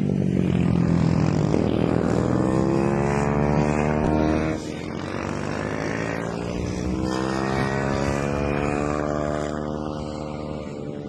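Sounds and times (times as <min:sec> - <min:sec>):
racing motorcycles at high revs: 0:00.0 - 0:11.0.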